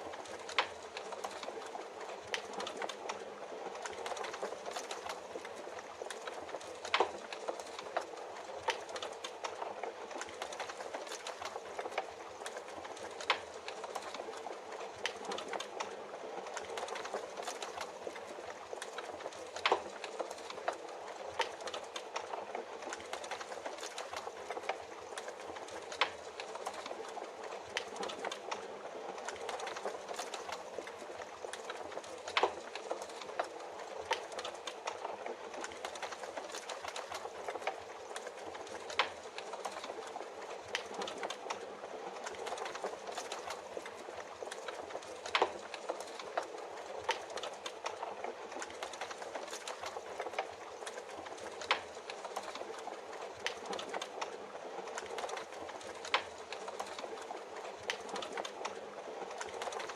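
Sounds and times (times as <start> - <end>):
fireplace crackling: 0.0 - 59.9.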